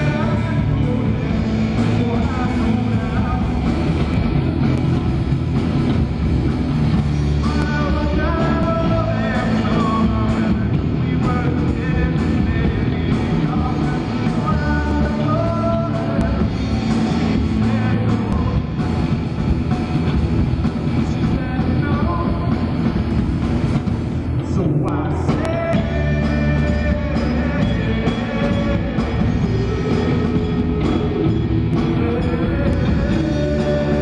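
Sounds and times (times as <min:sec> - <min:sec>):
rock band playing: 0:00.0 - 0:34.0.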